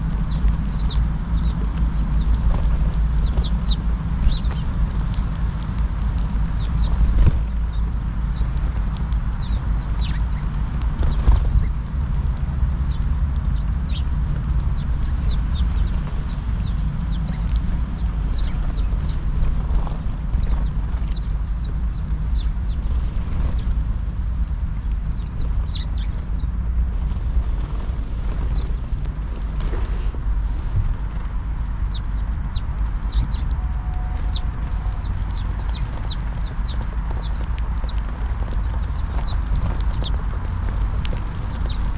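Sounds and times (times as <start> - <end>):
sparrows chirping: 0.0 - 4.8, 6.5 - 11.9, 12.8 - 23.8, 24.8 - 26.5, 28.0 - 30.4, 31.8 - 41.9
low rumble: 0.0 - 41.9.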